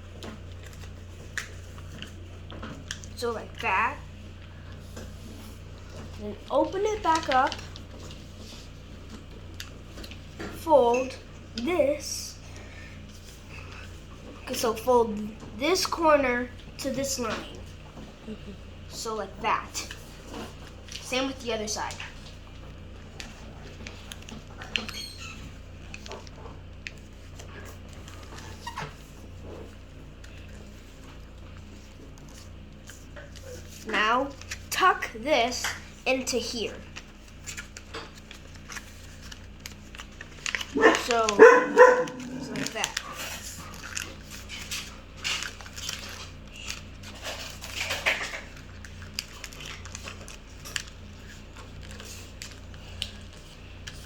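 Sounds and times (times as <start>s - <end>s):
paper being folded and creased: 0.0s - 16.2s, 19.3s - 54.0s
low steady hum: 0.0s - 54.0s.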